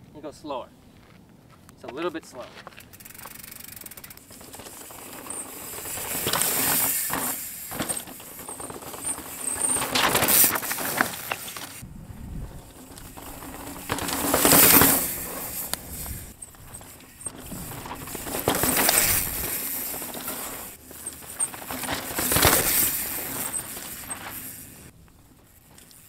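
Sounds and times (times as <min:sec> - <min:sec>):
bike tyres rolling on sandy dirt: 0:00.8 - 0:26.0.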